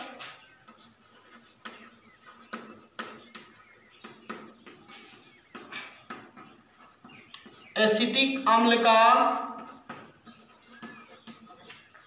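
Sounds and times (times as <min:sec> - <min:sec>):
chalk writing on blackboard: 0:00.0 - 0:12.0.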